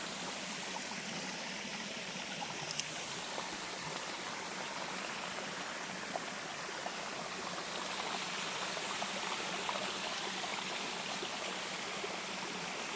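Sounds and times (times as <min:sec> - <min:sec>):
small waterfall splashing: 0:00.0 - 0:12.9.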